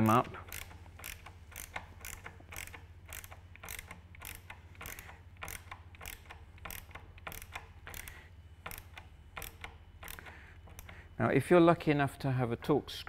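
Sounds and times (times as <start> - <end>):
screwdriver clicking: 0.5 - 11.0.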